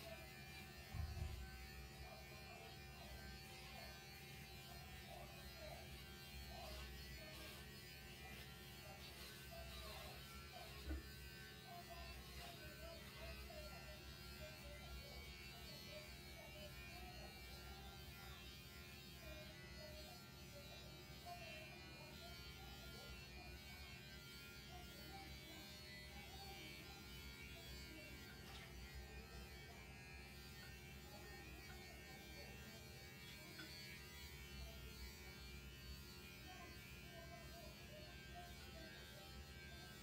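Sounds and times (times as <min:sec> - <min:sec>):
electric hair clipper buzzing: 0:00.0 - 0:40.0.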